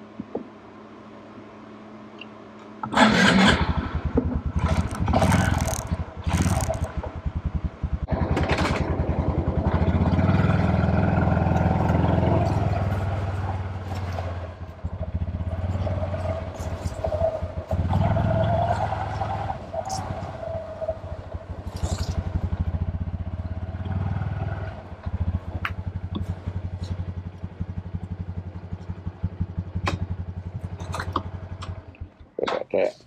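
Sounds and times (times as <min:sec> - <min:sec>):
motorcycle engine revving: 0:02.8 - 0:32.3.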